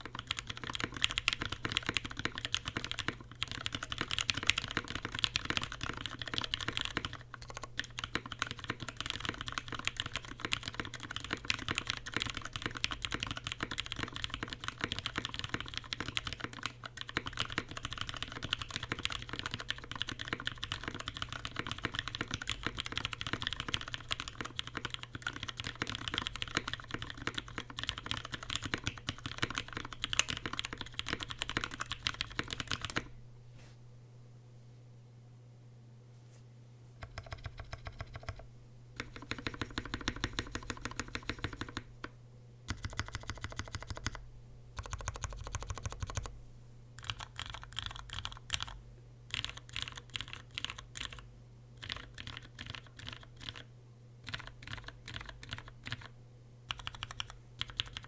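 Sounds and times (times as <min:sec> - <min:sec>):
mechanical keyboard typing: 0:00.0 - 0:33.1, 0:37.0 - 0:38.4, 0:39.0 - 0:41.9, 0:42.7 - 0:44.2, 0:44.8 - 0:46.3, 0:47.0 - 0:51.2, 0:51.8 - 0:56.1, 0:56.7 - 0:58.0.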